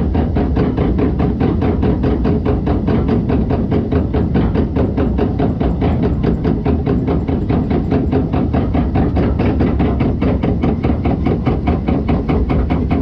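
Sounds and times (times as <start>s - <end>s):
conveyor clacking: 0.0s - 13.0s
low rumble: 0.0s - 13.0s.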